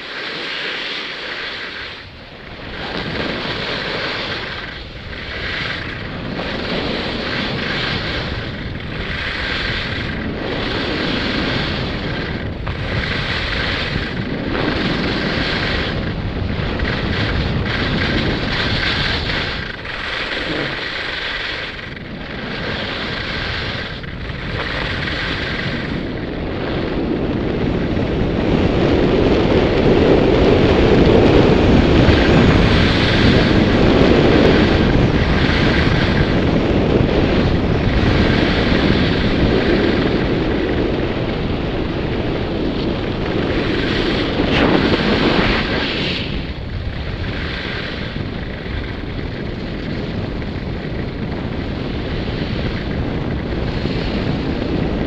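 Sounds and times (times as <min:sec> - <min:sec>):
skis scraping on snow: 0:00.0 - 0:55.0
wind rushing over microphone: 0:00.0 - 0:55.0.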